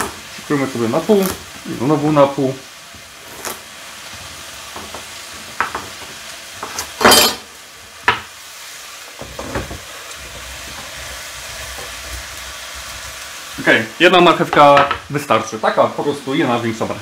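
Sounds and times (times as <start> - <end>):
onion sizzling in oil: 0.0 - 17.0.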